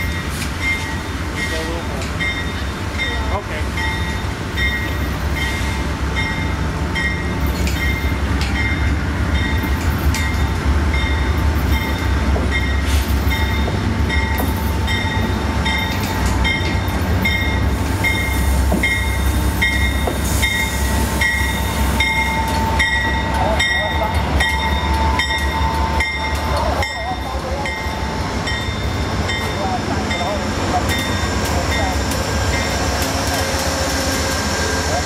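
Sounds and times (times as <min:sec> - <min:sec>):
locomotive bell ringing: 0:00.0 - 0:33.5
locomotive engine rumble: 0:00.0 - 0:35.0.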